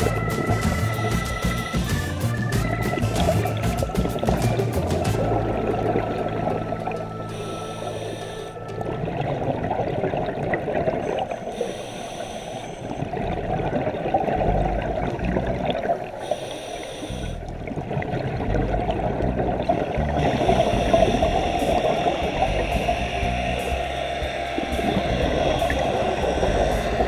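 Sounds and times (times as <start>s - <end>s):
underwater bubbles gurgling: 0.0s - 27.0s.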